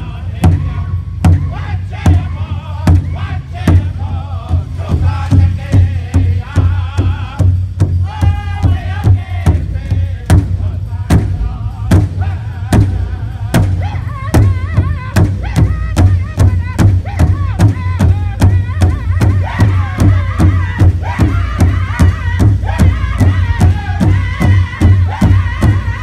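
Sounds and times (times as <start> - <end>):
drum group singing high voices: 0.0 - 26.0
large hand drum beating: 0.4 - 26.0.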